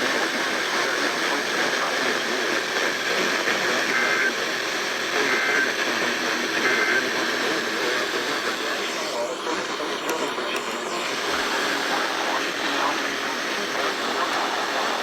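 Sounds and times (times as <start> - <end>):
radio static hissing: 0.0 - 15.0.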